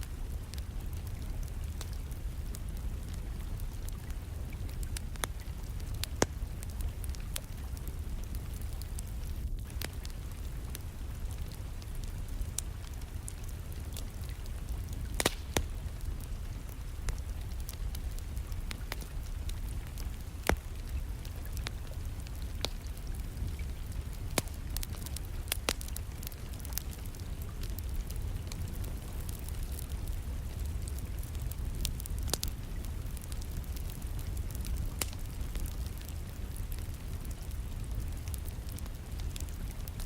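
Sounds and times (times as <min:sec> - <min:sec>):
rain pattering: 0:00.0 - 0:40.0
wood fire crackling and popping: 0:00.0 - 0:40.0.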